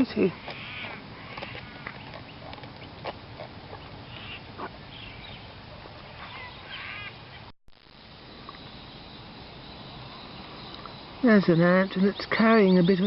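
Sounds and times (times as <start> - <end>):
wild birds chirping: 0.0 - 7.5, 8.1 - 13.0
outdoor background noise: 0.0 - 13.0.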